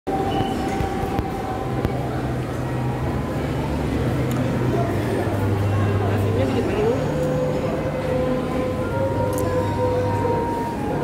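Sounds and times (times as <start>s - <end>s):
restaurant din: 0.1s - 11.0s.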